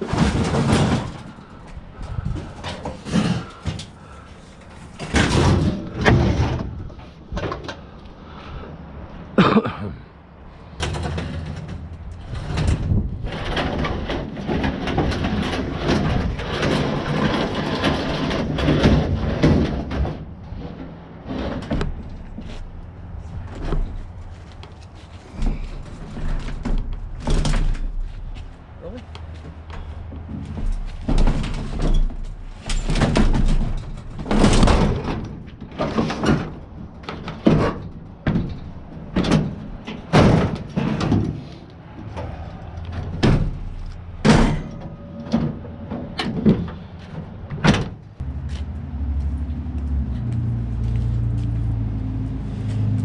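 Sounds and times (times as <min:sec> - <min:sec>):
loose metal bangs and knocks: 0:00.0 - 0:07.8, 0:10.7 - 0:28.6, 0:29.5 - 0:48.0
rumbling with low hum: 0:00.0 - 0:53.0.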